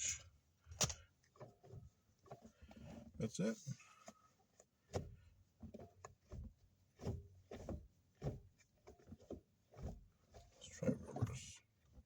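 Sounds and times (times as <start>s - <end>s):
gear shifter clunks: 0.0s - 12.0s.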